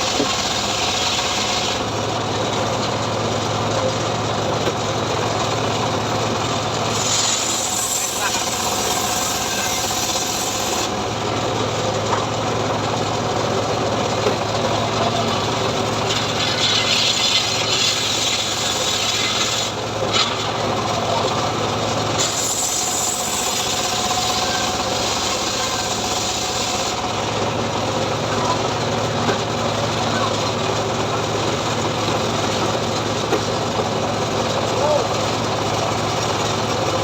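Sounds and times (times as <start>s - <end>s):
saw cutting through wood: 0.0s - 2.8s, 5.0s - 12.0s, 14.0s - 37.0s
engine running steadily: 0.0s - 37.0s.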